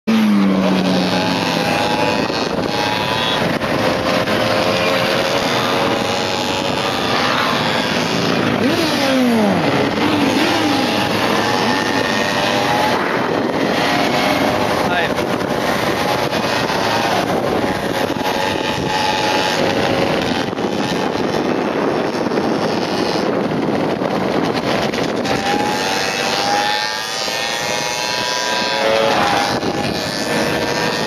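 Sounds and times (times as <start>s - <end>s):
motorcycle engines revving: 0.0s - 31.0s
wind noise on microphone: 0.1s - 31.0s.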